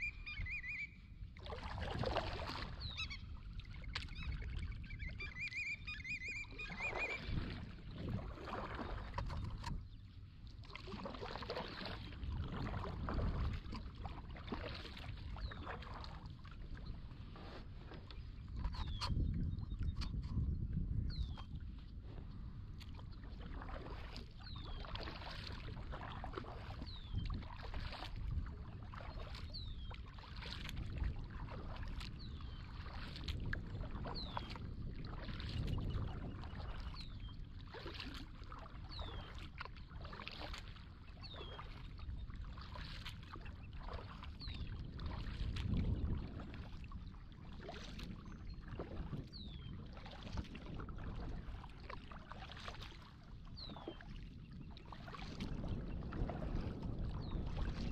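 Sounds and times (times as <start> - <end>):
paddle dipping and water splashing: 0.0 - 57.9.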